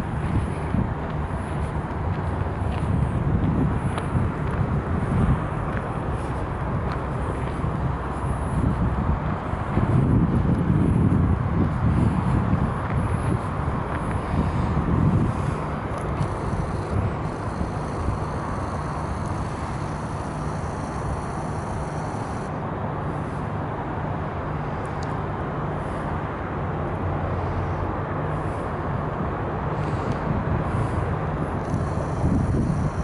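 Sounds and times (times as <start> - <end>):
diesel engine humming: 0.0 - 33.0
outdoor air noise: 0.0 - 33.0.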